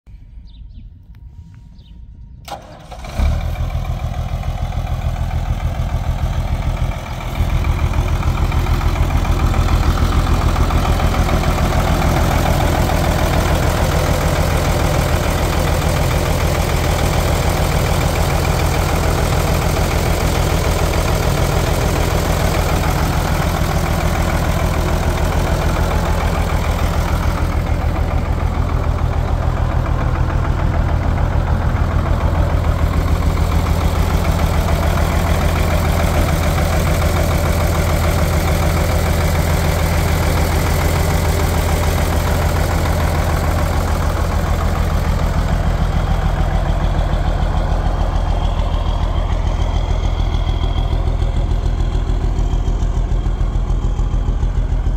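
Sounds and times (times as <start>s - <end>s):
diesel engine starting and idling: 0.1s - 54.9s.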